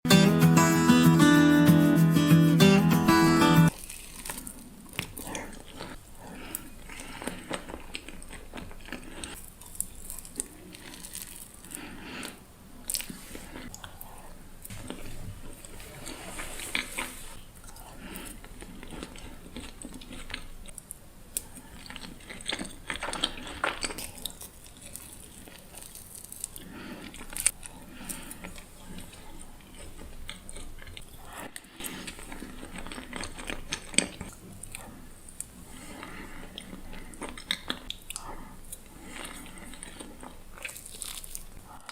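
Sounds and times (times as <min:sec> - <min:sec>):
crunchy chewing: 0:03.7 - 0:41.9.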